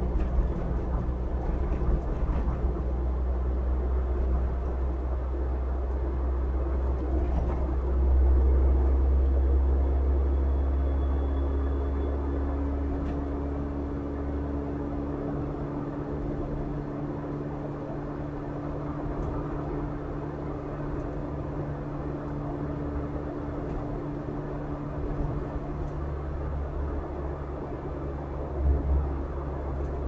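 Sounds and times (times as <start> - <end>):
car engine hum: 0.0 - 30.0
road noise: 0.0 - 30.0.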